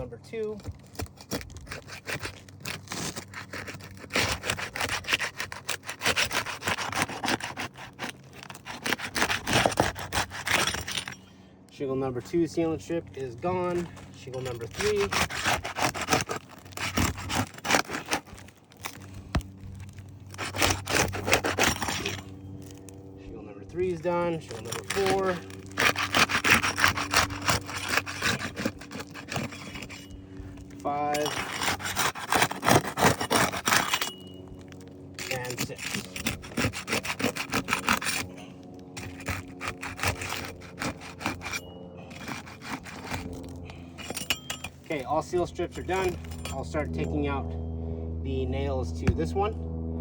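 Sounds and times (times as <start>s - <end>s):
pry bar scraping shingle: 0.0s - 23.1s, 23.8s - 47.4s.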